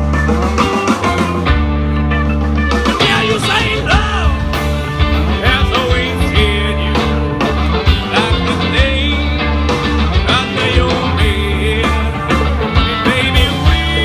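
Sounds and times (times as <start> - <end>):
live rock band playing: 0.0 - 14.0
sliding lead melody: 0.0 - 14.0.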